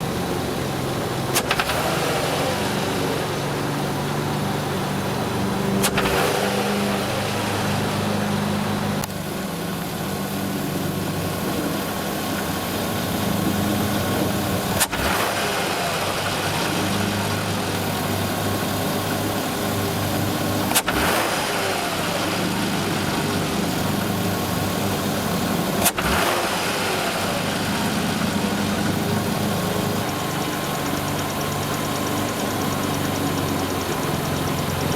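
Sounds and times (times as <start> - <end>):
car engine running with rattle: 0.0 - 34.9.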